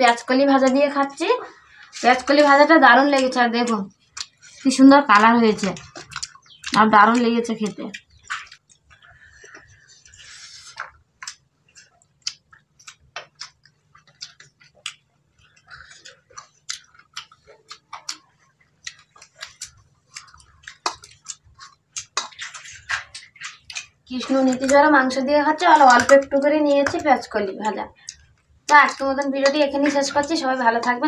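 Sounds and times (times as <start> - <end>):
chewing: 0.1 - 31.0.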